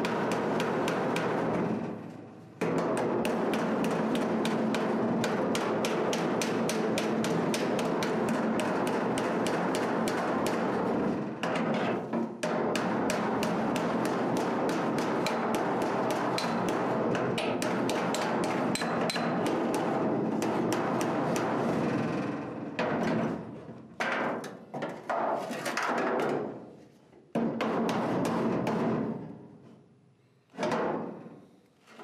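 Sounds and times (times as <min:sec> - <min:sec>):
hammer striking sheet metal: 0:00.0 - 0:24.5, 0:27.4 - 0:29.3, 0:30.6 - 0:31.2.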